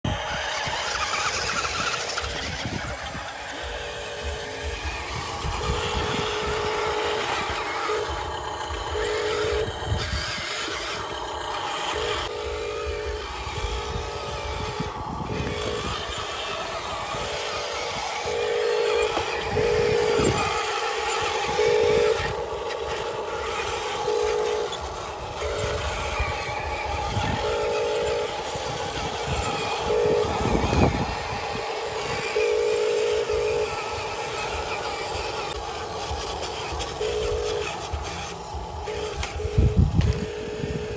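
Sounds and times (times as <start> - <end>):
electric motor whining: 0.0 - 40.9
truck rumbling over dirt: 0.0 - 40.9.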